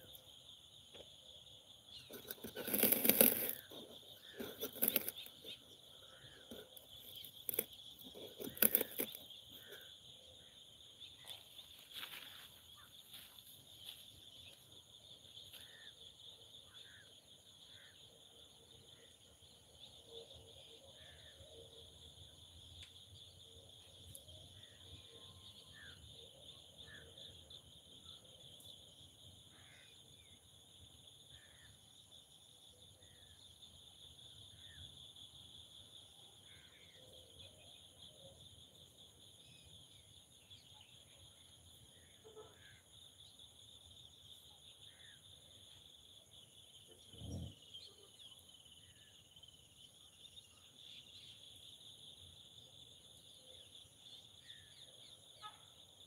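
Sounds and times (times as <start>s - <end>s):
faint insect chorus buzzing: 0.0s - 56.0s.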